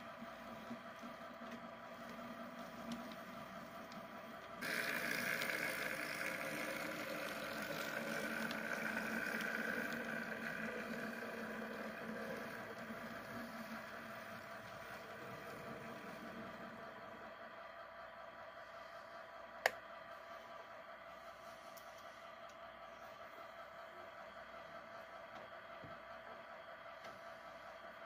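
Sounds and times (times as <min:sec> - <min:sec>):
model locomotive motor whining: 0:00.0 - 0:28.0.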